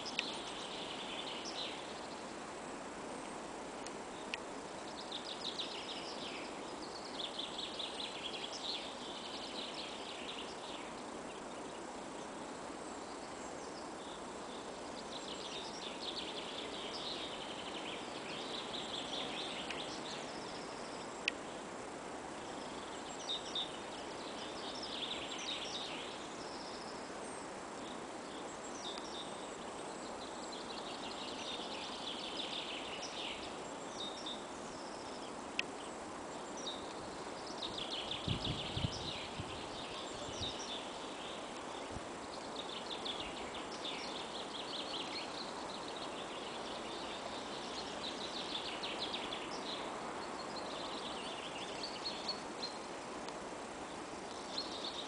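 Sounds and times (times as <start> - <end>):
songbirds singing: 0.0 - 55.0
steady background hiss: 0.0 - 55.0.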